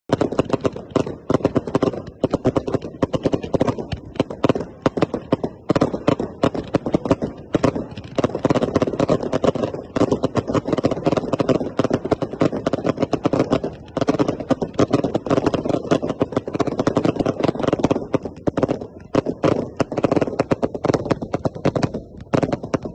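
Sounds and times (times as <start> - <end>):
fireworks crackling: 0.1 - 22.9.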